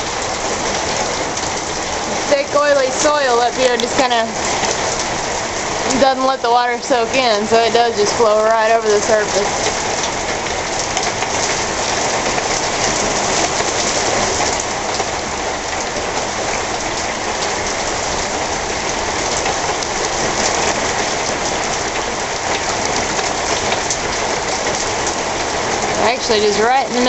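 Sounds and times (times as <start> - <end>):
heavy rain downpour: 0.0 - 27.0.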